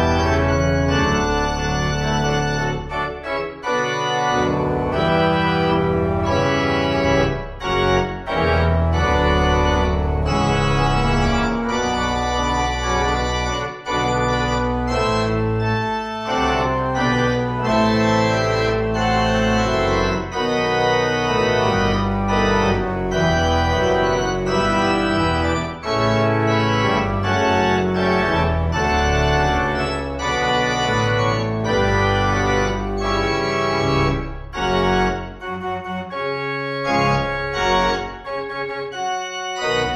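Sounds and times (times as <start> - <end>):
organ playing chords: 0.0 - 39.9.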